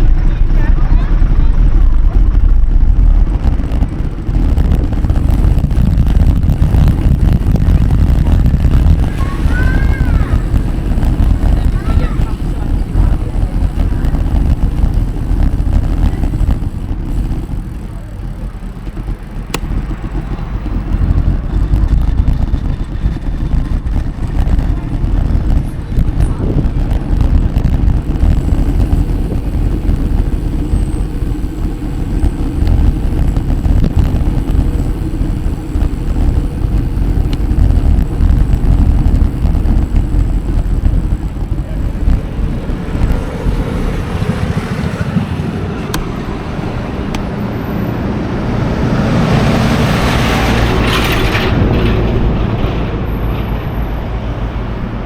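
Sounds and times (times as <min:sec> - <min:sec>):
road noise: 0:00.0 - 0:55.0
wind buffeting microphone: 0:00.0 - 0:55.0.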